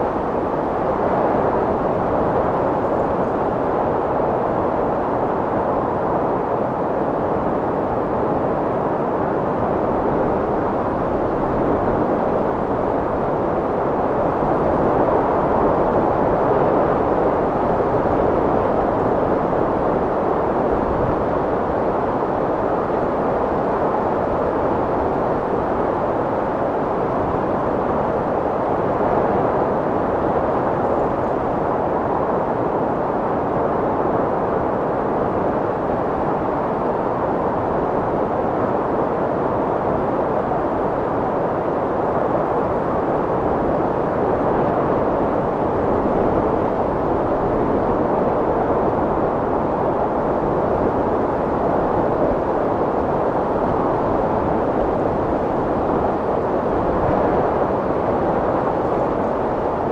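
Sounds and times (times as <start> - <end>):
strong wind rushing: 0.0 - 59.9.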